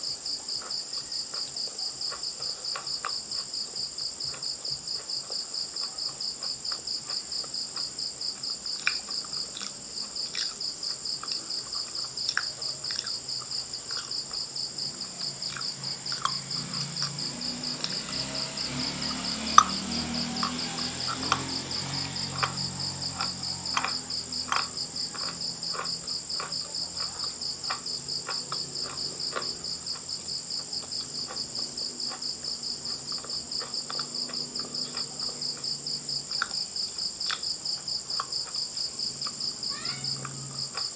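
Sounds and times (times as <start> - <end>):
chalk being chewed: 0.0 - 40.9
cricket chirping: 0.0 - 40.9.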